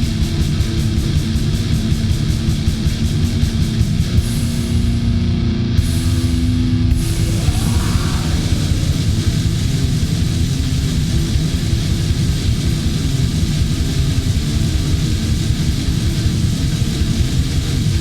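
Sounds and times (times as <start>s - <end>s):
heavy metal guitars and drums: 0.0s - 18.0s.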